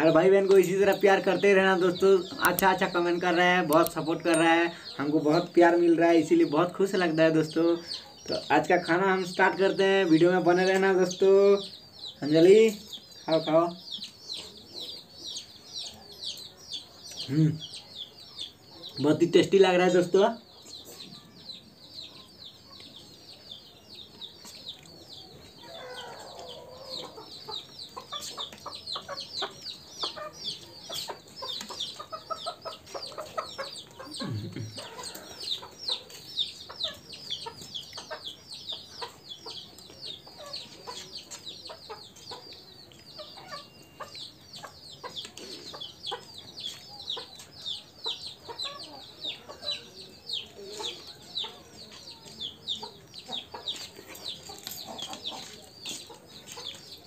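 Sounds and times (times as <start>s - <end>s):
chickens clucking: 0.0s - 57.0s
chickens peeping: 0.0s - 57.0s.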